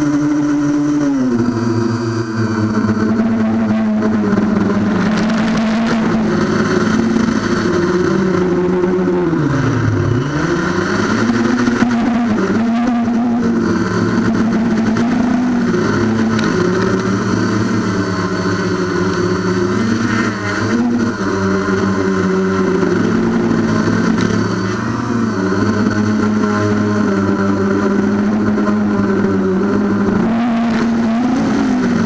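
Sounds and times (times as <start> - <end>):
drone propellers whirring: 0.0 - 32.0.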